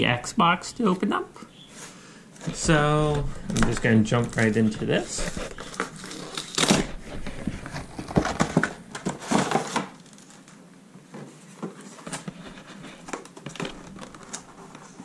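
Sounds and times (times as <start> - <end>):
packaging rustling and crinkling: 2.4 - 15.0.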